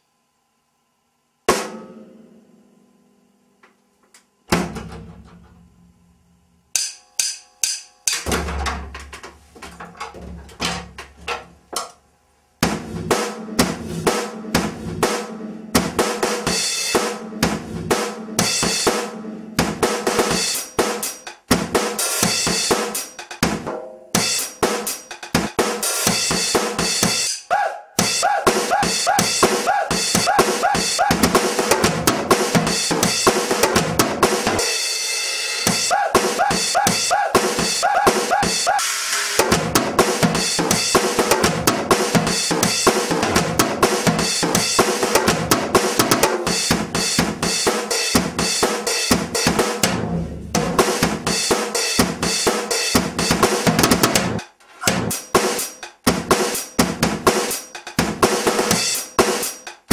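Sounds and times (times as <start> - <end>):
drum kit playing: 1.5 - 2.4, 6.7 - 9.0, 12.6 - 59.9.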